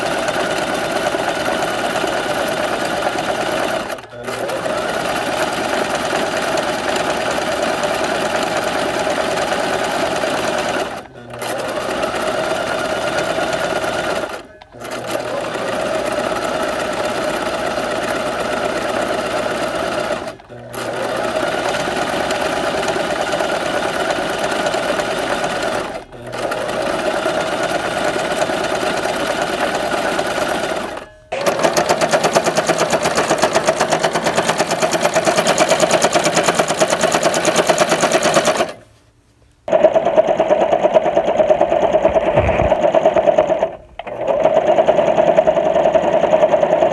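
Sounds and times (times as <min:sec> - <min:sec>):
sewing machine running: 0:00.0 - 0:38.8, 0:39.7 - 0:46.9.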